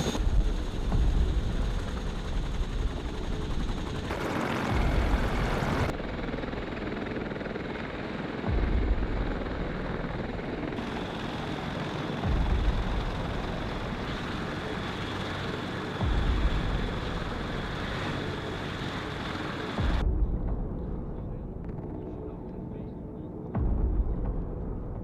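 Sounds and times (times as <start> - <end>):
helicopter running: 0.0 - 20.7.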